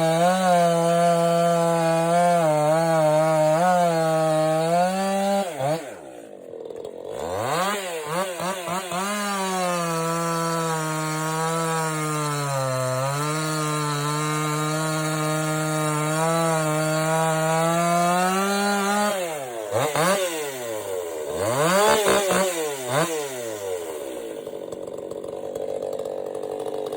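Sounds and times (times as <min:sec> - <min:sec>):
chainsaw revving and idling: 0:00.0 - 0:26.9.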